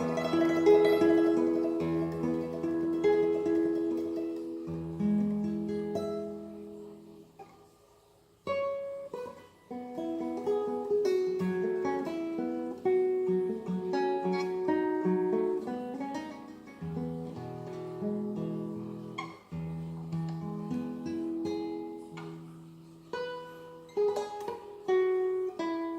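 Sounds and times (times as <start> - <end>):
acoustic guitar playing: 0.0 - 25.9.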